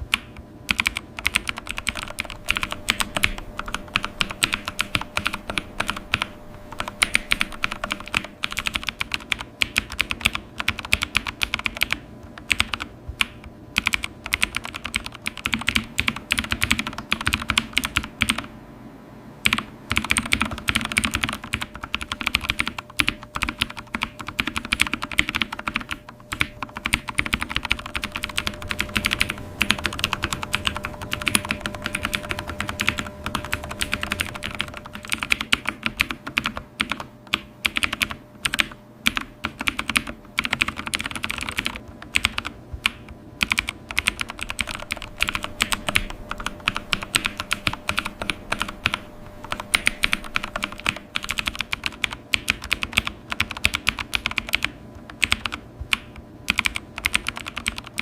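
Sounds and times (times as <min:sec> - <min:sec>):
computer keyboard typing: 0:00.0 - 0:18.5, 0:19.4 - 0:58.0.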